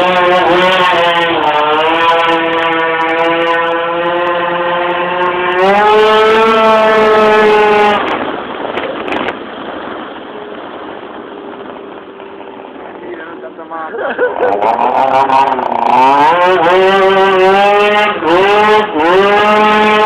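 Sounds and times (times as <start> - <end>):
scooter engine revving high: 0.0 - 9.4, 12.6 - 20.0.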